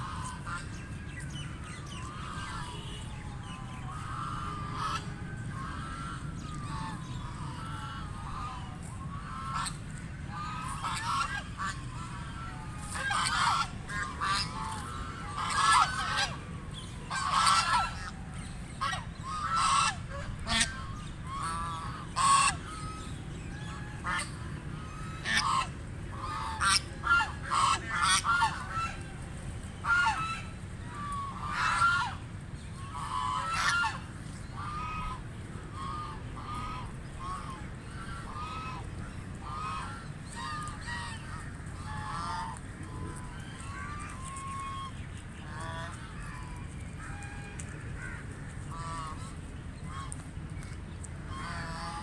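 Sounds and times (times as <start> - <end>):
ducks quacking: 0.0 - 52.0
low background noise: 0.0 - 52.0.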